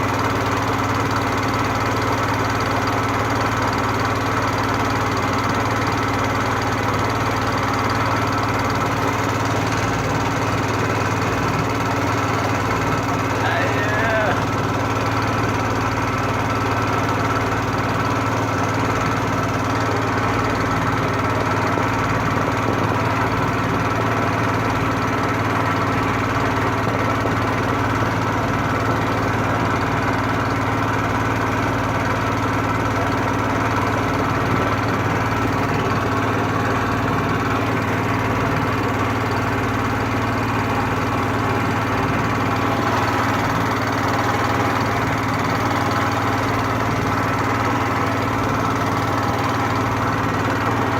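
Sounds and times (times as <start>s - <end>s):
boat motor humming: 0.0s - 50.9s.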